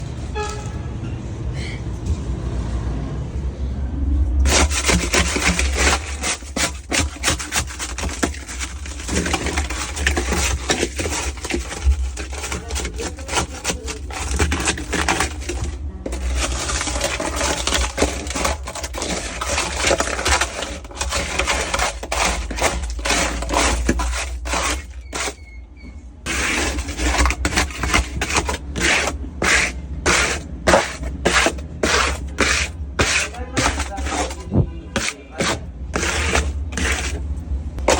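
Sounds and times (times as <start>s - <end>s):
cleaning tool scrubbing: 4.4s - 25.5s, 26.3s - 37.9s.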